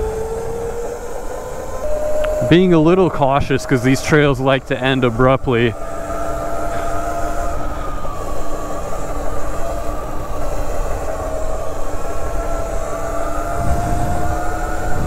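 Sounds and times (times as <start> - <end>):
electric motor whining: 0.0 - 15.0
wind and tyre rumble: 0.0 - 15.0.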